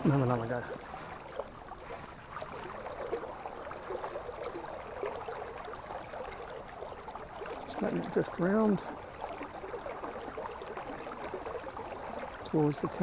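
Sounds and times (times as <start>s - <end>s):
river water babbling: 0.0s - 13.0s.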